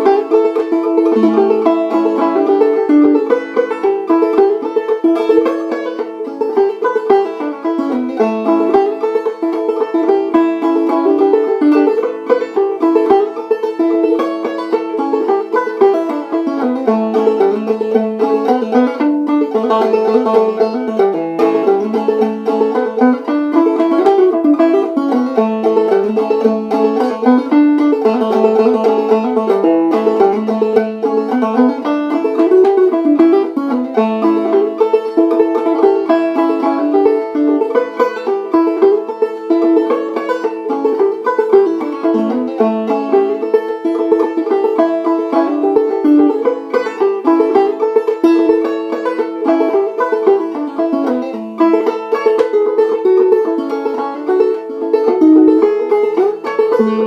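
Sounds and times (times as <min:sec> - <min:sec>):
banjo plucked fast: 0:00.0 - 0:57.0.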